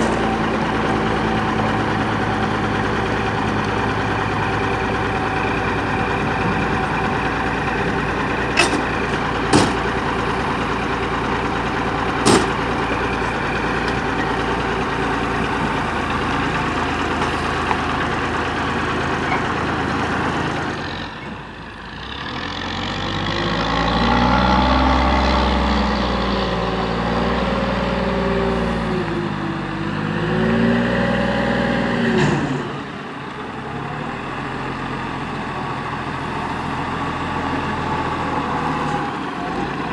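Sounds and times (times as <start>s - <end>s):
diesel truck engine: 0.0s - 39.9s.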